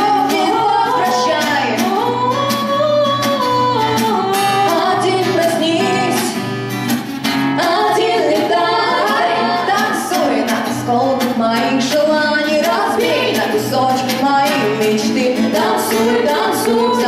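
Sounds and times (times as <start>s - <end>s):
young female voices singing: 0.0s - 6.5s, 7.5s - 17.0s
strummed acoustic guitar: 0.0s - 17.0s.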